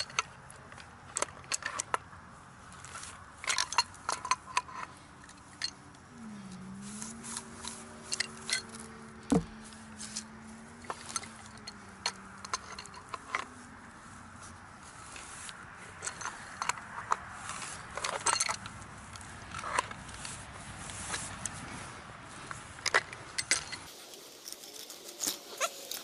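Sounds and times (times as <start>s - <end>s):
pipe wrenches clicking on metal: 0.0s - 6.0s, 7.0s - 21.6s, 22.4s - 23.9s.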